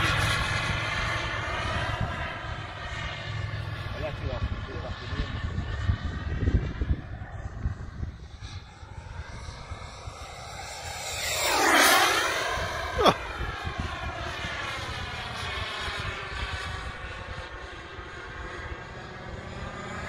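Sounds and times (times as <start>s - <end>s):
model jet turbine whine: 0.0s - 20.0s
sharp downward-sweeping sound: 0.0s - 20.0s.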